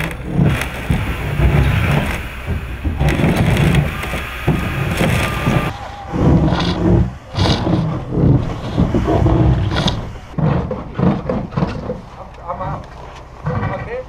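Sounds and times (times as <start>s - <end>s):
wood scraping against ice: 0.0s - 14.0s.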